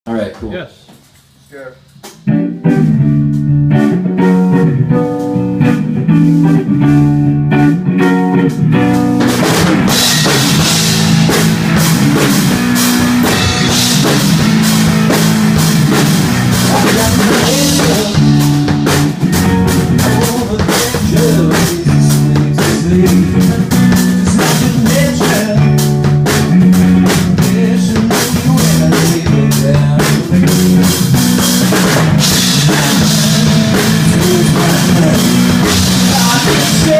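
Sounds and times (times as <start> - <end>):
band playing drums and guitar: 0.1 - 36.9.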